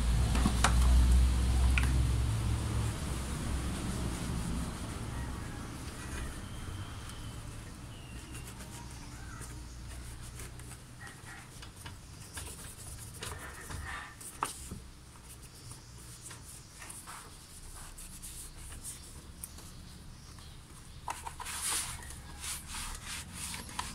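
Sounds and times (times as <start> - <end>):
cloth rubbing on plastic: 2.4 - 19.8, 21.1 - 23.9.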